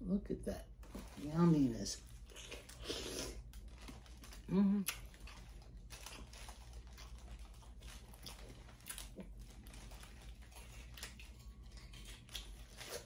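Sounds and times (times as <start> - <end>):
low steady hum: 0.0 - 13.0
quiet chewing: 2.0 - 13.0.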